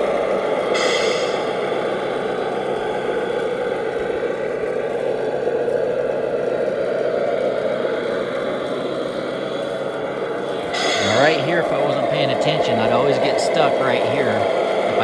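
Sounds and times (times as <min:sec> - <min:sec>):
toy truck motor running: 0:00.0 - 0:15.0.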